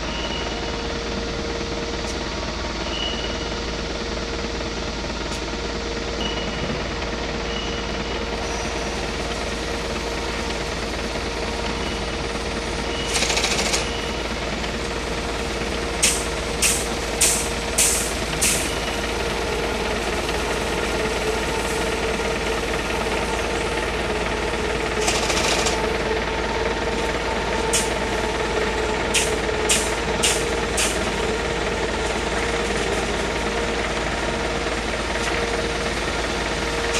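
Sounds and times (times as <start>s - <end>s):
industrial machinery hum: 0.0s - 36.9s.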